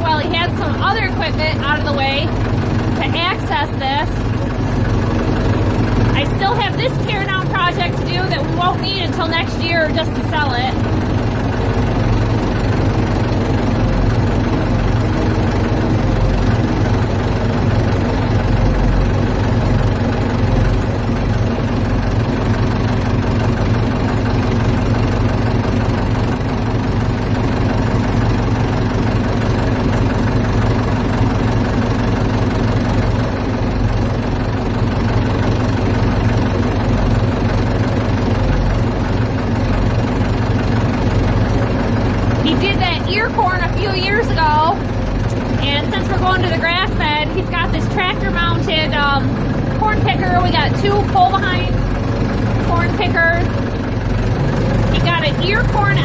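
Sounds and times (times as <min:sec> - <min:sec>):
engine idling low: 0:00.0 - 0:56.0.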